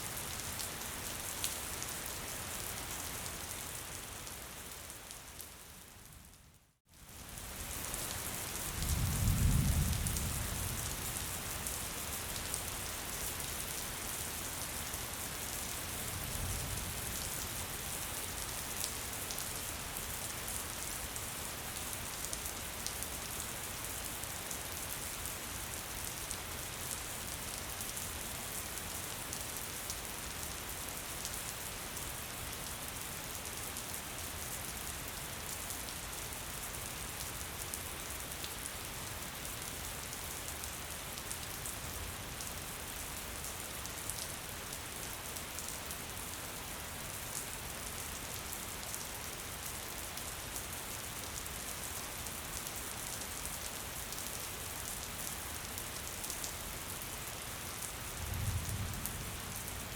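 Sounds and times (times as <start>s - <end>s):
gentle rain patter: 0.0s - 59.9s.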